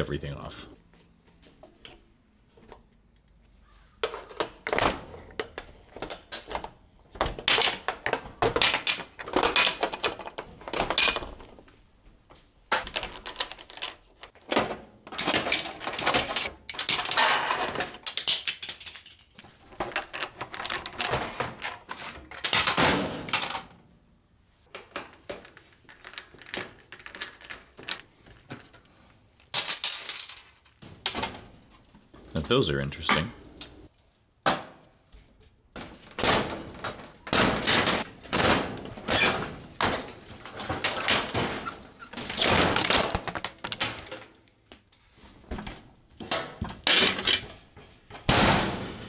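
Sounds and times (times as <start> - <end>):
tools and metal parts clattering: 4.0 - 23.9, 24.6 - 33.4, 35.2 - 49.0.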